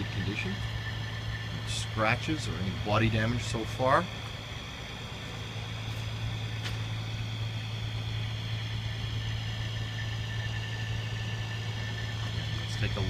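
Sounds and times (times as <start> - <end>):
faint high whine: 0.0 - 13.0
truck engine idling: 0.0 - 13.0.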